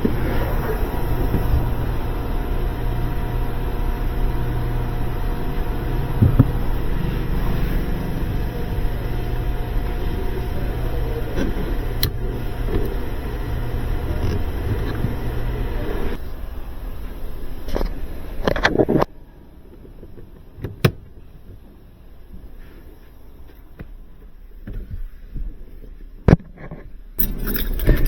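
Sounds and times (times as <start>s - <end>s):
car engine rumbling: 0.0s - 26.2s, 26.9s - 28.0s.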